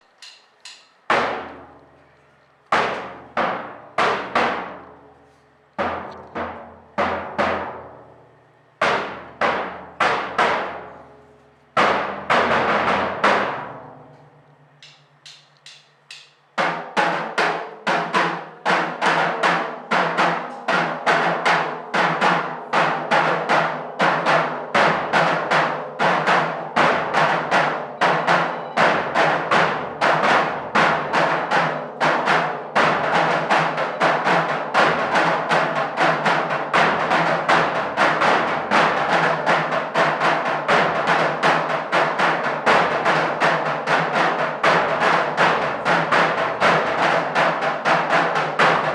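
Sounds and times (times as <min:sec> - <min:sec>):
drums playing: 0:00.0 - 0:01.8, 0:02.7 - 0:05.0, 0:05.8 - 0:08.0, 0:08.8 - 0:11.0, 0:11.8 - 0:14.1, 0:14.7 - 0:48.9.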